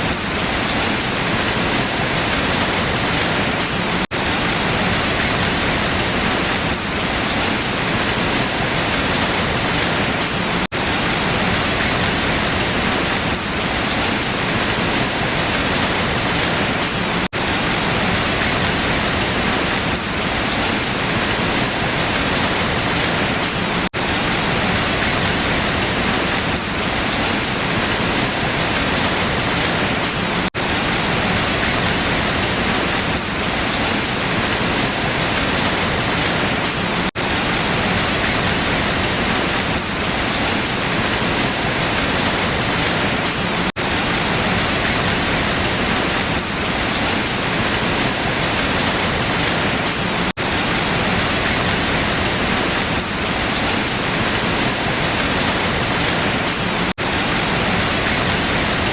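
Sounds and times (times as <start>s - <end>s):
heavy rain on leaves: 0.0s - 58.9s.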